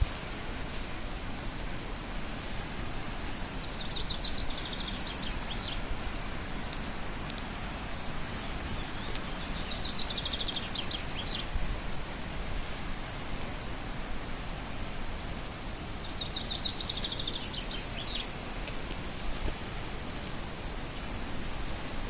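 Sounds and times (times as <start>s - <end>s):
flowing water rushing: 0.0s - 22.0s
songbird singing: 0.0s - 22.0s.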